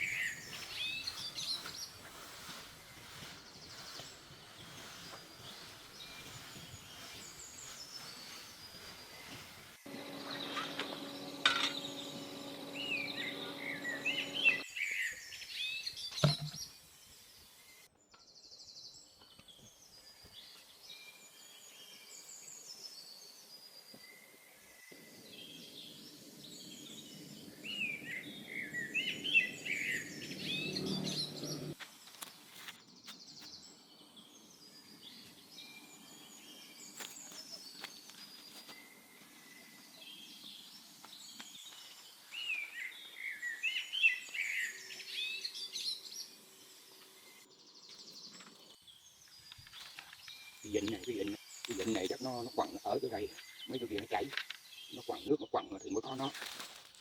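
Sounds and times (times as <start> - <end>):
birds chirping: 0.0 - 56.4.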